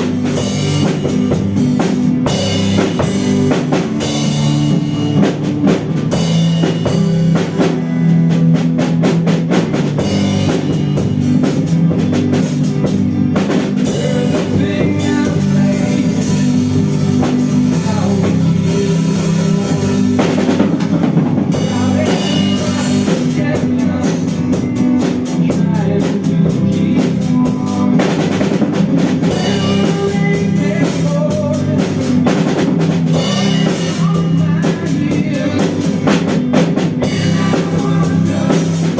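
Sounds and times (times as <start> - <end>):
drum kit beat: 0.0 - 38.9
rock band playing: 0.0 - 38.9
sustained guitar chords: 0.0 - 38.9.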